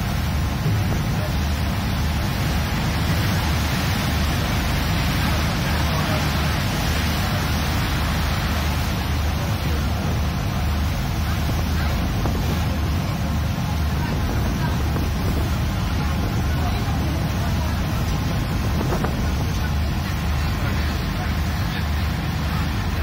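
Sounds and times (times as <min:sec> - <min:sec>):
low boat engine drone: 0:00.0 - 0:23.0
water rushing along hull: 0:00.0 - 0:23.0.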